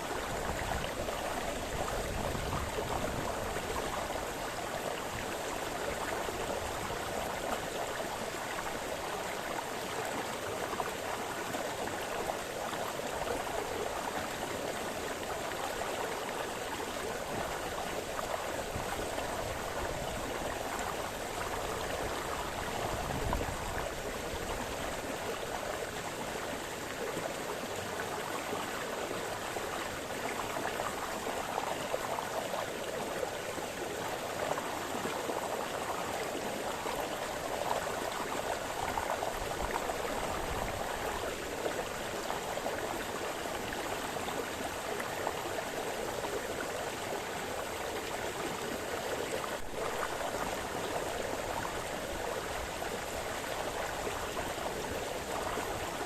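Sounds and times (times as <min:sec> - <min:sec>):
brook babbling over stones: 0:00.0 - 0:56.0.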